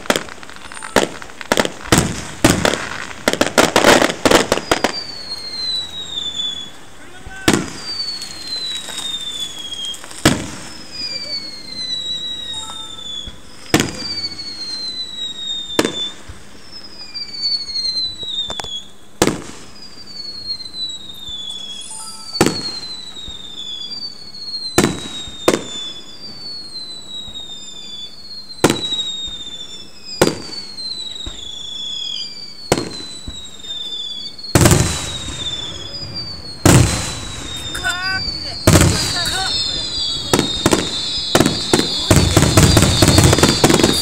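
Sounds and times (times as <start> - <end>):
falling firework whistle: 0.0 - 44.0
fireworks bursting with bangs: 0.0 - 44.0.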